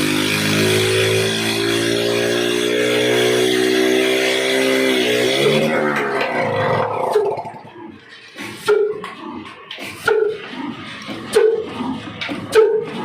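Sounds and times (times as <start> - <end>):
old motorcycle engine running: 0.0 - 13.0.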